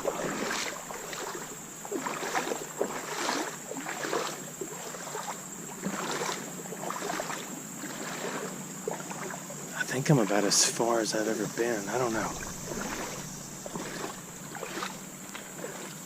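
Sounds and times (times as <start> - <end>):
boots wading through water: 0.0 - 16.0.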